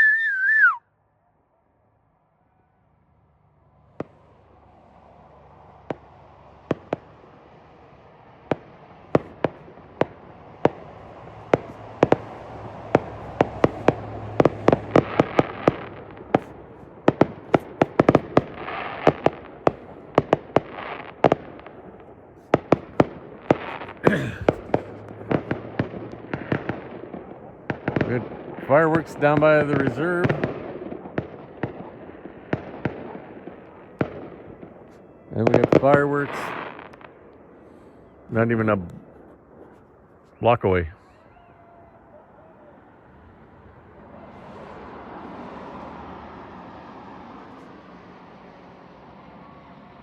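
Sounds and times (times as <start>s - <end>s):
fireworks bangs: 3.9s - 50.0s.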